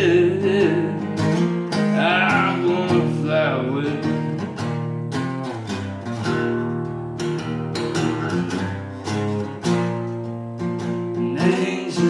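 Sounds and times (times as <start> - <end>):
acoustic guitar strumming: 0.0 - 12.0
person singing country song: 0.0 - 12.0.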